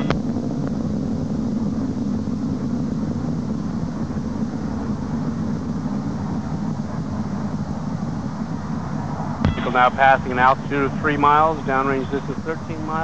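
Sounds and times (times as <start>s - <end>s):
rocket engine rumble: 0.0s - 13.0s.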